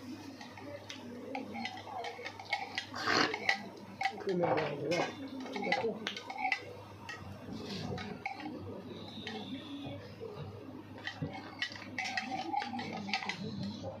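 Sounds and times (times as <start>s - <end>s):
dishes clinking: 0.3s - 14.0s.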